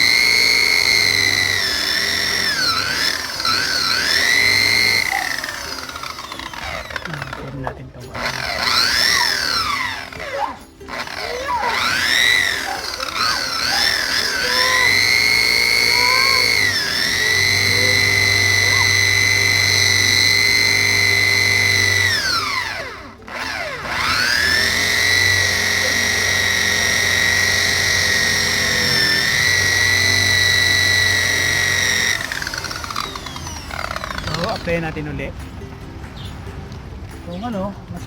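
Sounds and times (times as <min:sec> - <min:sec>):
buffer-polisher motor whining: 0:00.0 - 0:35.0.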